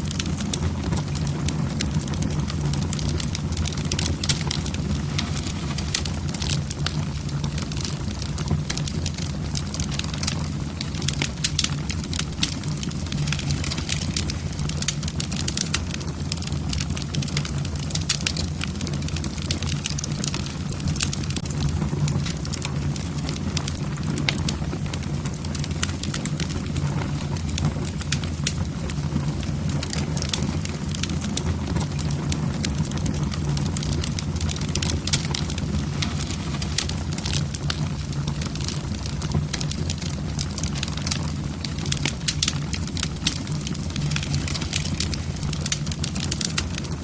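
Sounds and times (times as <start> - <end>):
logs crackling in fireplace: 0.0 - 47.0.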